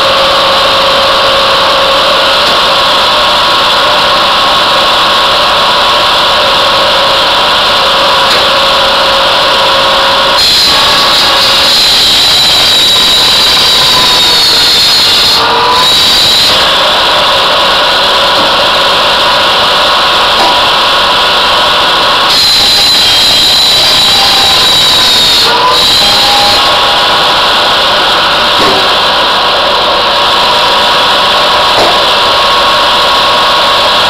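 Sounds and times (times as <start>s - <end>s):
circular saw cutting wood: 0.0s - 34.0s.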